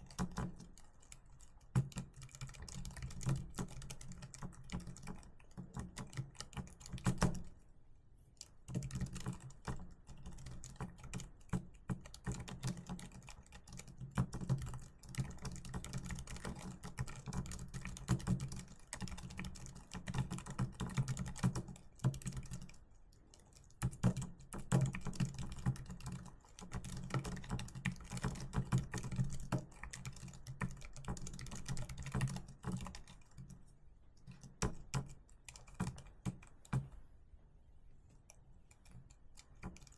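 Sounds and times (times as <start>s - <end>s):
fast typing on keyboard: 0.0s - 7.6s, 8.6s - 36.9s, 38.7s - 39.9s.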